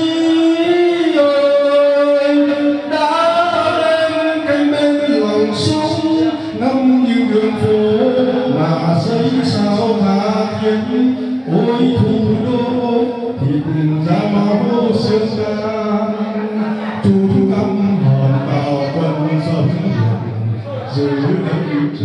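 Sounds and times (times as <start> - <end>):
man singing into microphone: 0.0 - 22.0.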